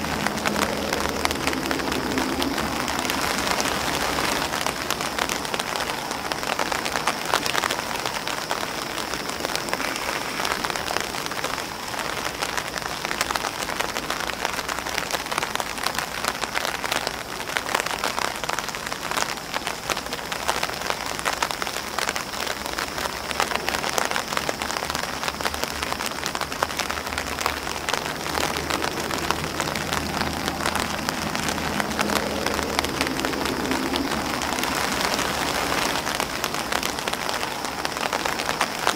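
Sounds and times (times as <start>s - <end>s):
rain pattering on umbrella and grass: 0.0s - 38.9s.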